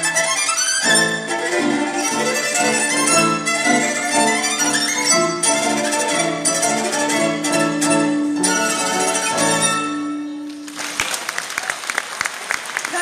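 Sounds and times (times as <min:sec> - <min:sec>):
solo violin melody: 0:00.0 - 0:10.4
orchestra accompaniment: 0:00.0 - 0:10.6.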